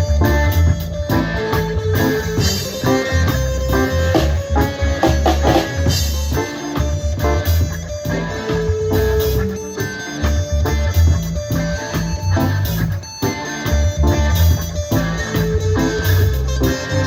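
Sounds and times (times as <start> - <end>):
deep bass line: 0.0 - 17.0
drum kit: 0.0 - 17.0
guitar: 0.0 - 17.0.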